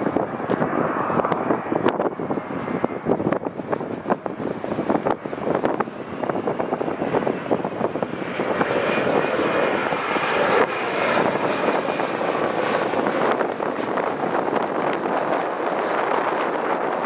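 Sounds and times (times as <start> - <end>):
airliner engines rushing past: 0.0 - 17.0
wind buffeting microphone: 0.0 - 17.0.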